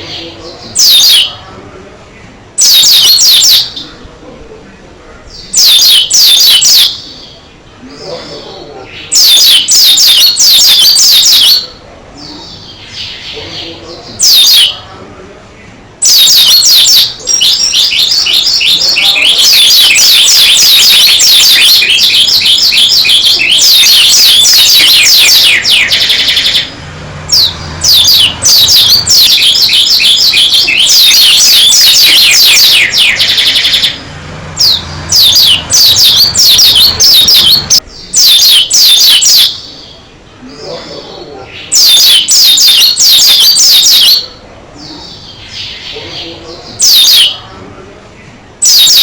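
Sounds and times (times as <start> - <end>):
bird singing high chirps: 0.0 - 1.4, 2.6 - 4.0, 5.3 - 14.9, 16.0 - 40.1, 41.5 - 47.5, 48.6 - 49.0.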